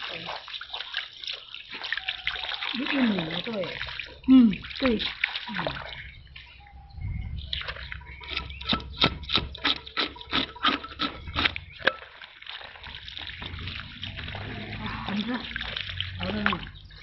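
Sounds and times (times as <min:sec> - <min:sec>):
water running and splashing: 0:00.0 - 0:06.6, 0:07.4 - 0:17.0.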